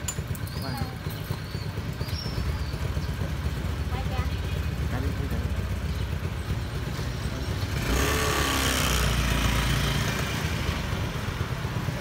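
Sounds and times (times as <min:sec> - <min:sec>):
motorcycle engine idling: 0:00.0 - 0:12.0
scooter passing: 0:00.0 - 0:12.0.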